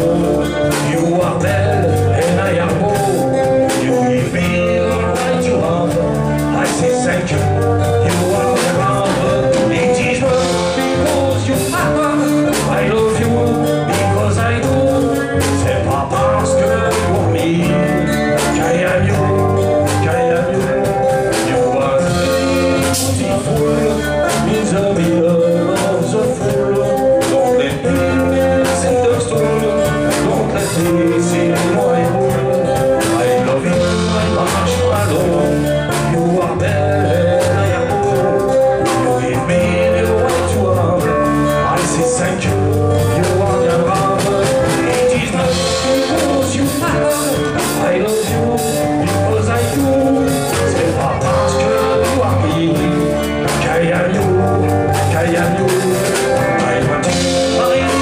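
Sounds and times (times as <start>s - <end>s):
drum kit beat: 0.0s - 58.0s
electric bass: 0.0s - 58.0s
electric guitar: 0.0s - 58.0s.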